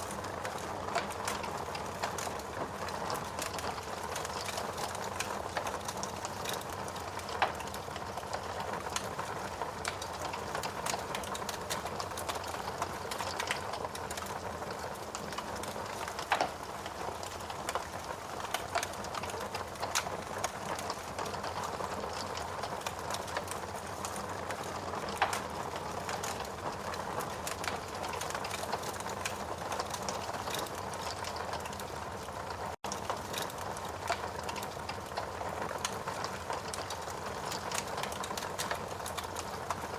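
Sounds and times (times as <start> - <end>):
steady rain: 0.0 - 39.9
wood fire crackling and popping: 0.0 - 39.9.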